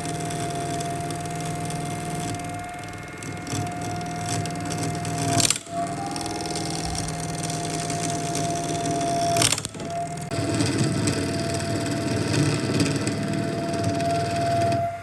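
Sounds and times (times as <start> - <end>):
loud rasping bursts from tool: 0.0 - 15.0
power tool whining: 0.0 - 15.0.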